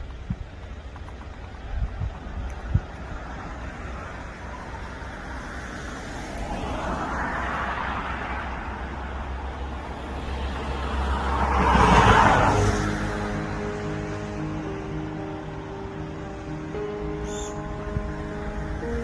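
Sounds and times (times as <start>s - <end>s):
road traffic rumble: 0.0s - 19.0s
vehicles passing: 0.0s - 19.0s.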